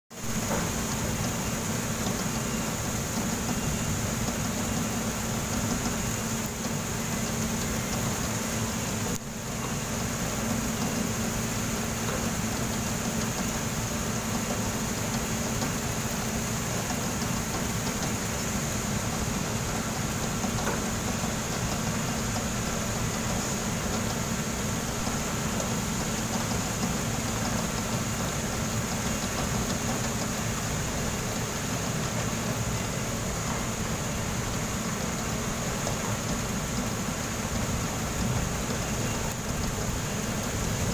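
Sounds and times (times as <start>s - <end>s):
machine hum with low tone: 0.2s - 40.9s.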